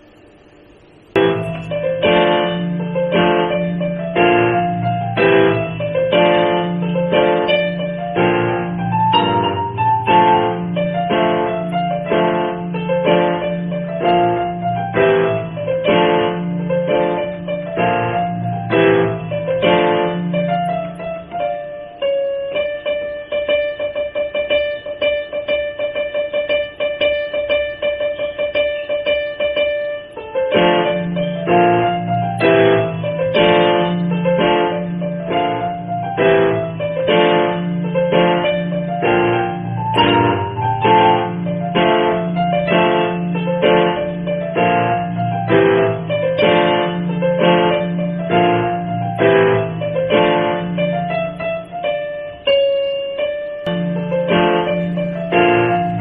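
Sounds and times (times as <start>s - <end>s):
piano music: 0.0s - 56.0s.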